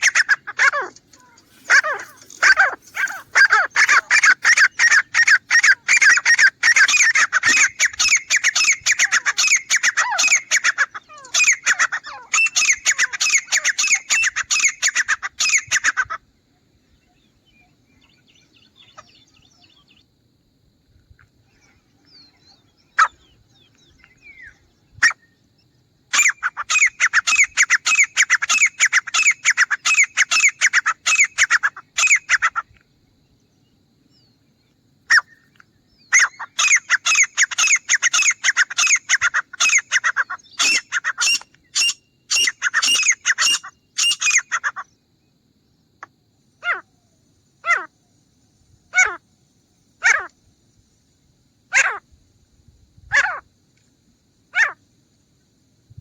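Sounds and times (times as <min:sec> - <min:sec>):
francolin calling: 0:00.0 - 0:20.1, 0:21.1 - 0:52.2, 0:53.0 - 0:55.0.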